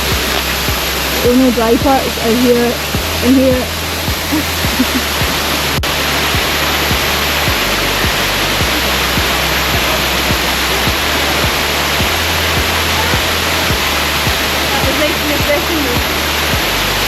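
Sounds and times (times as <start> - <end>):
music with bass beat: 0.0 - 17.0
waterfall rushing into pool: 0.0 - 17.0.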